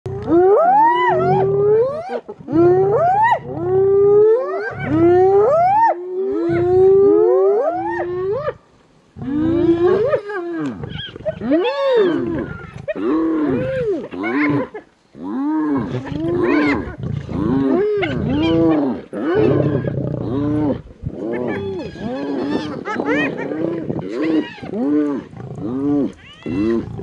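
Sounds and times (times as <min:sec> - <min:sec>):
hyenas whooping and groaning: 0:00.1 - 0:08.6, 0:09.2 - 0:27.0.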